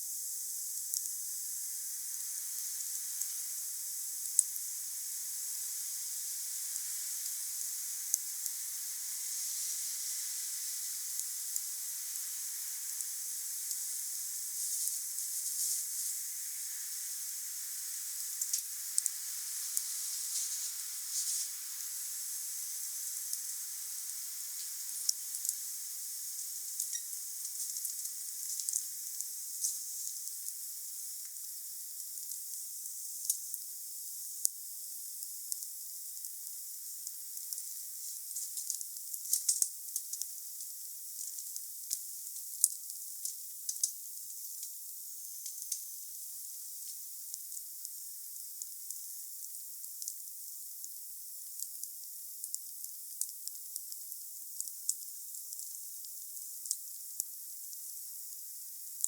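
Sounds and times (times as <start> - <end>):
wood fire crackling and hissing: 0.0 - 59.0.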